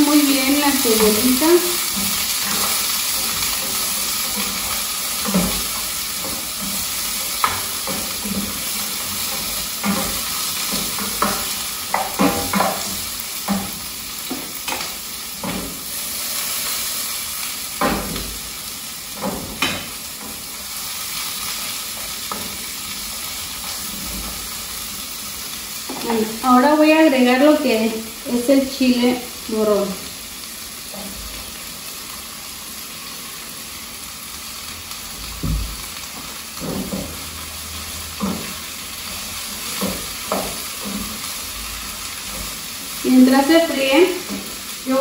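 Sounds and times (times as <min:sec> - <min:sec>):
onion sizzling in oil: 0:00.0 - 0:45.0.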